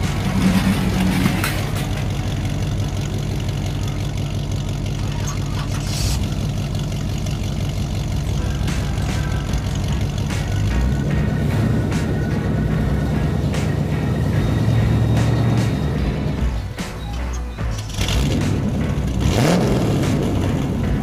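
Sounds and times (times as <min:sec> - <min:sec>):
low engine-like drone: 0:00.0 - 0:21.0.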